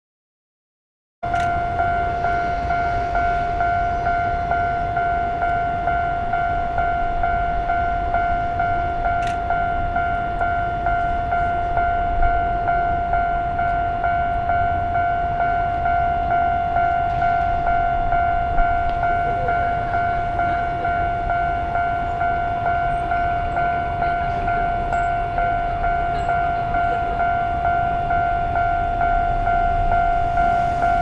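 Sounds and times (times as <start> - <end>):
level-crossing alarm dinging: 1.2 - 31.0
low train rumble: 1.2 - 31.0.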